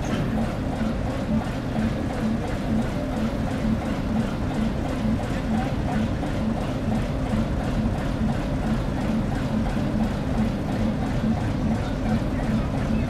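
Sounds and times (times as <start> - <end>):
turntable mechanical rumble: 0.0 - 13.0.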